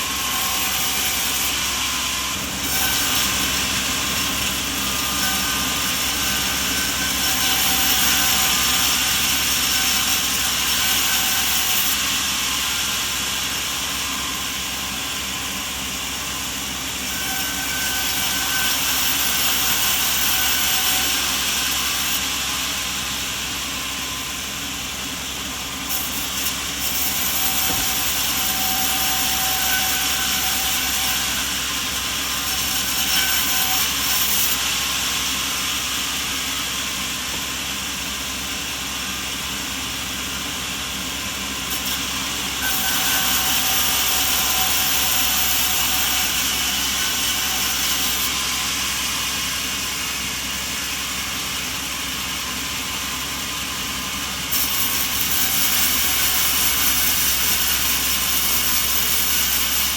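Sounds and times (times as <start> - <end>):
saw cutting wood: 0.0 - 59.9
sawmill machinery running: 0.0 - 59.9.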